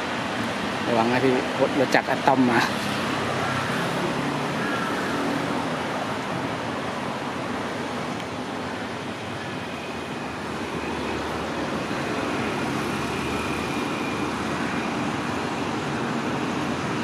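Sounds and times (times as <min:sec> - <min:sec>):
diesel train running: 0:02.6 - 0:17.0.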